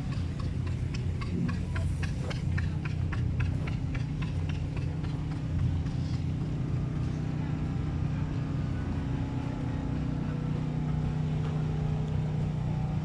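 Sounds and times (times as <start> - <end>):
engine humming with ticking: 0.0 - 13.0.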